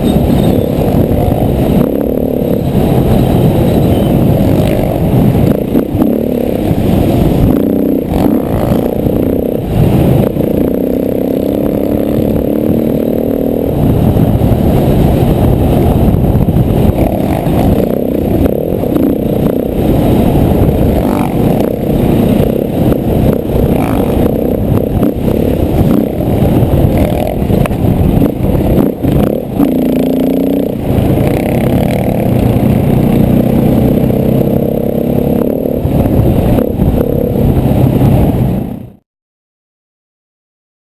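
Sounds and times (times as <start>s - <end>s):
dirt bike engine revving: 0.0s - 38.4s.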